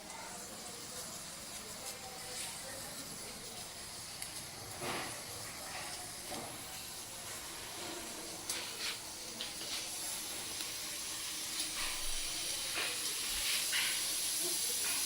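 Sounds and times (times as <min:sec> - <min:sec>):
pressure cooker steam hissing: 0:00.0 - 0:15.0.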